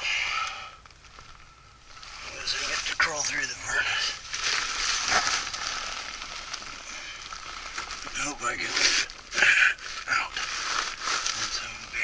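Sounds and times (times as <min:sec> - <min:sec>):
foil insulation crinkling: 0:00.8 - 0:12.0.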